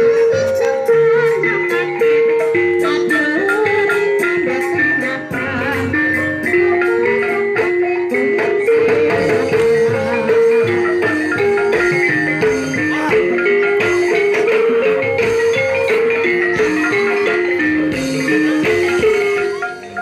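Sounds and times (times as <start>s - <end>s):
drums: 0.0s - 20.0s
gamelan music: 0.0s - 20.0s
struck xylophone-like notes: 0.0s - 20.0s.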